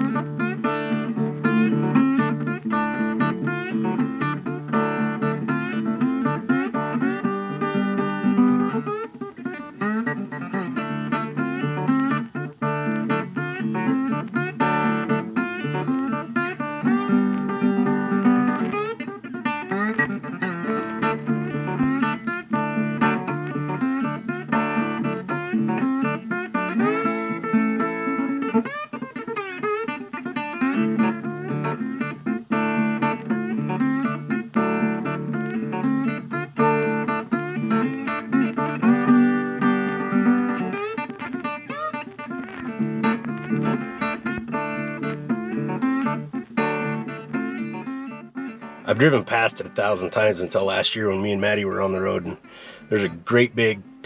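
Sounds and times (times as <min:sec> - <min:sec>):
guitar instrumental: 0:00.0 - 0:54.0.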